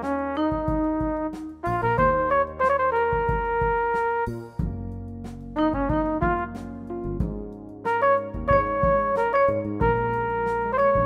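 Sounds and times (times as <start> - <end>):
brass and bass background music: 0.0 - 11.0.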